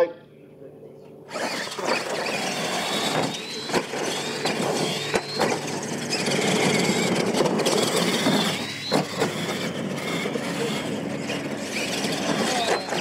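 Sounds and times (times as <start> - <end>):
toy truck motors whining: 1.3 - 13.0.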